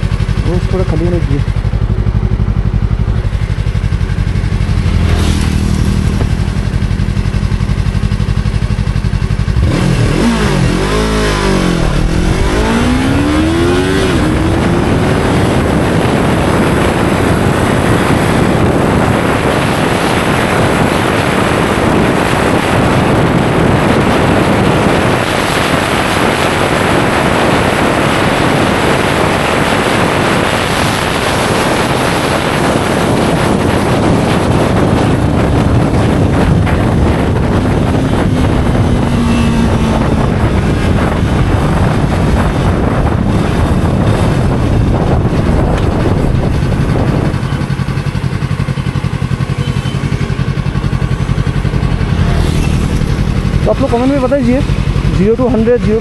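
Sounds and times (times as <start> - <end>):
motorcycle engine revving: 0.0 - 56.0
wind rushing on microphone: 0.0 - 56.0.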